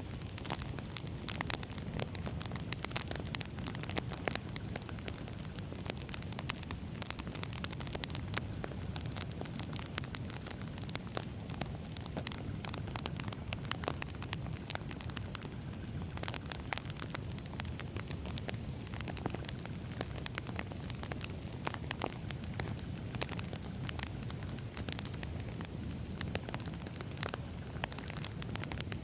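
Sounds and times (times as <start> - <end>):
burning logs crackling and popping: 0.0 - 29.0
flames rumbling: 0.0 - 29.0.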